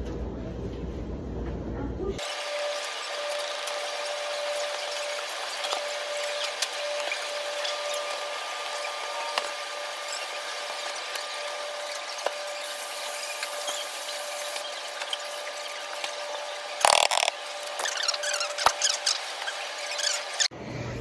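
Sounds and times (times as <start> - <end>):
dryers whirring hum: 0.0 - 21.0.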